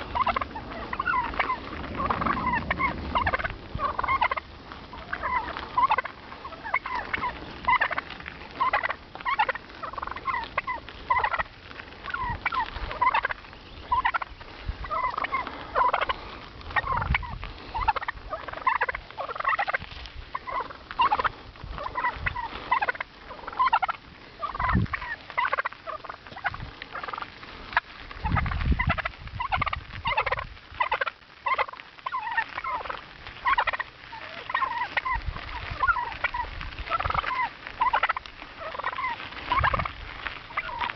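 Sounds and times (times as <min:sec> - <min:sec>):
wild turkeys calling: 0:00.0 - 0:40.9.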